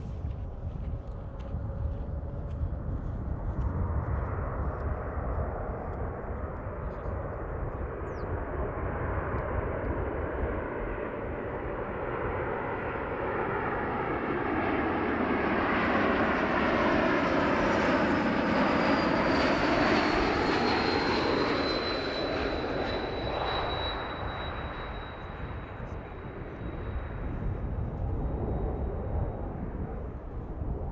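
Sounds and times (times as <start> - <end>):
high jet engine whine: 0.0 - 30.9
jet airliner flying past low: 0.0 - 30.9.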